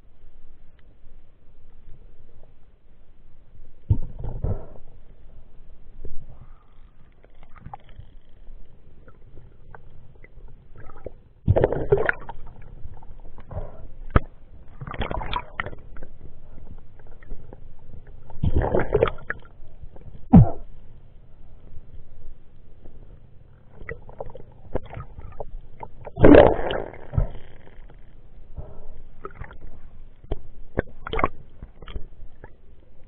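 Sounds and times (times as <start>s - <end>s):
muffled water sloshing: 3.8s - 33.0s.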